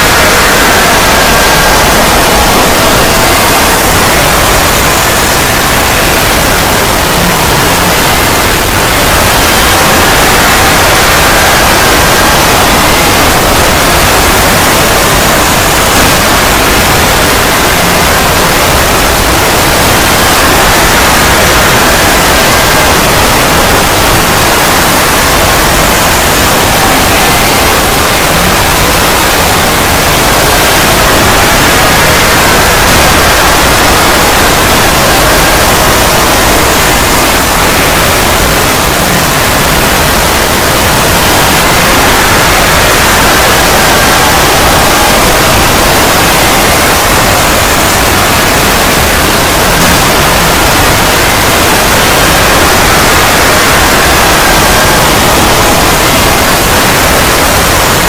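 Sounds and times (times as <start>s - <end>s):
crowd screaming in panic: 0.0s - 58.0s.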